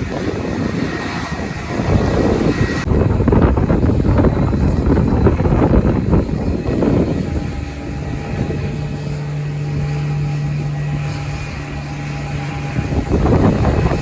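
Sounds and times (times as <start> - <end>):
jet engines running: 0.0 - 14.0
wind buffeting microphone: 0.0 - 14.0.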